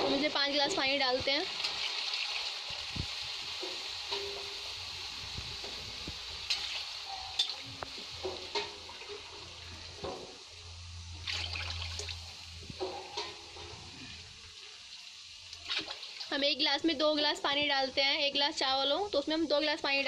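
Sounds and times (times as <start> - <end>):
faint sizzle: 0.0 - 20.0.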